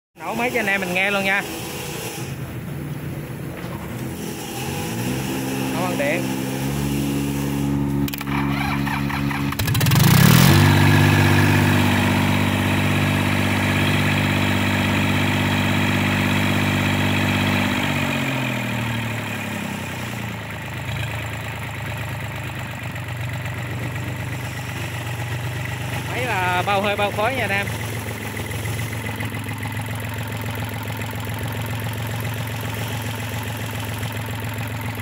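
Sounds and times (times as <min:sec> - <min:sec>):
diesel engine running: 0:00.2 - 0:35.0.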